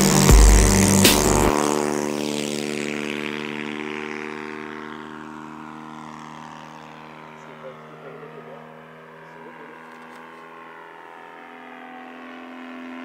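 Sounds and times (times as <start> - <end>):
model plane engine drone: 0.0 - 13.0.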